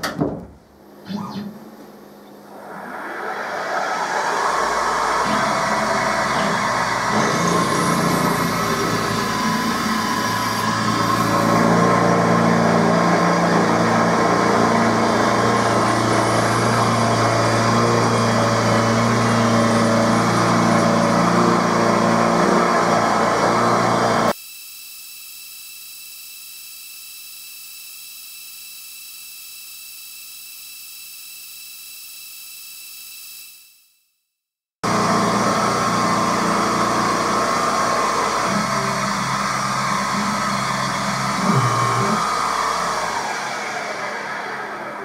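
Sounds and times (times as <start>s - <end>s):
milling machine cutting metal: 2.4s - 33.5s, 34.8s - 45.0s.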